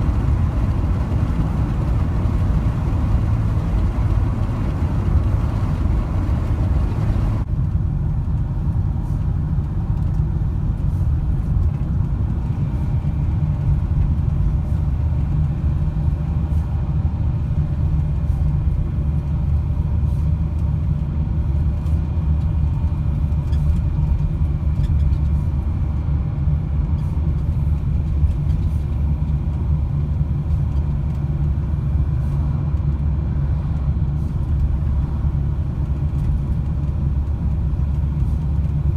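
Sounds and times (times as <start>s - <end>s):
road noise: 0.0s - 38.9s
van engine rumble: 0.0s - 38.9s.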